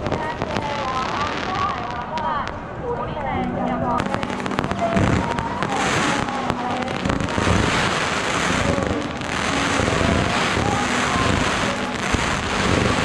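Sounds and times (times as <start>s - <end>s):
fireworks crackling barrage: 0.0s - 2.8s, 3.7s - 13.0s.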